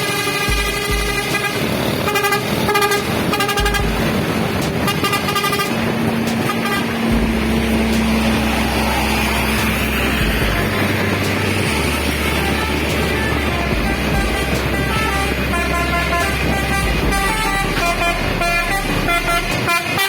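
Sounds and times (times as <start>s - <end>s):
bus engine humming: 0.0s - 20.0s
bus horns pulsing multi-tone: 0.0s - 20.0s
road noise: 0.0s - 20.0s.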